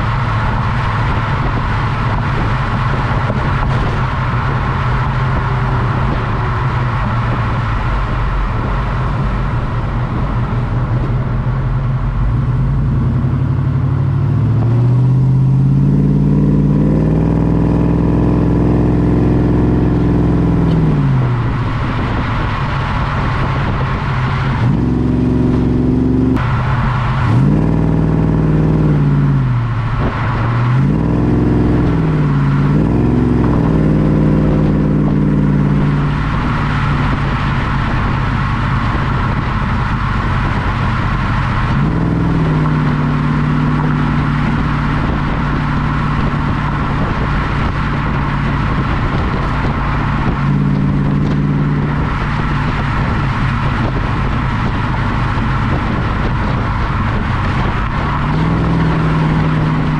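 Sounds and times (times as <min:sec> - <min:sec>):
car engine rumbling and revving: 0:00.0 - 0:59.9
tyre and wind noise: 0:00.0 - 0:59.9.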